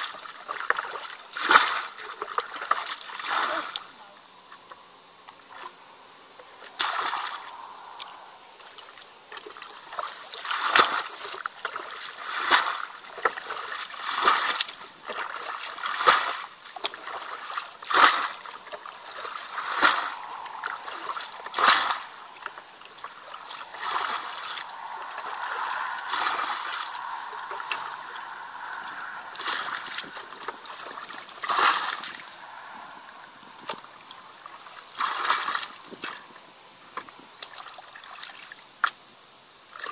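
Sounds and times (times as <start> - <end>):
water splashing from bucket: 0.0 - 3.9, 6.6 - 7.6, 8.6 - 36.3
steady water sound: 0.0 - 39.9.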